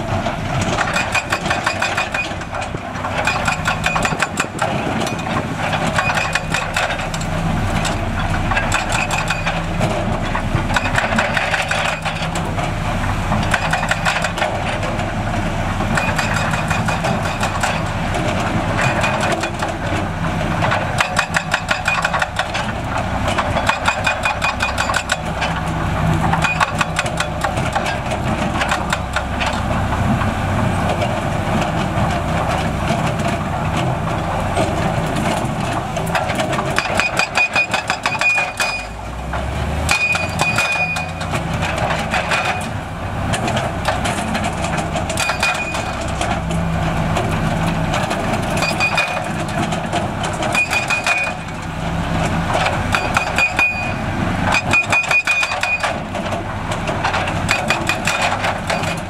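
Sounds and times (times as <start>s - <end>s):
heavy machinery diesel engine: 0.0s - 59.0s
clanks and rattles: 0.2s - 59.0s.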